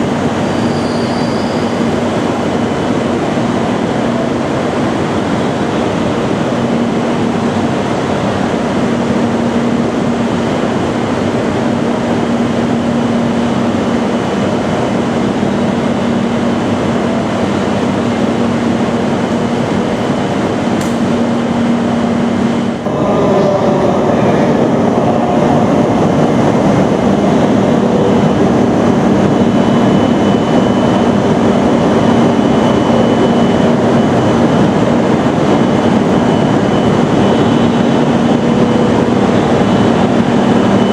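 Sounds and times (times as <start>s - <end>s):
train wheel and air rush: 0.0s - 40.9s
tones over train noise: 0.3s - 4.4s, 11.5s - 40.9s.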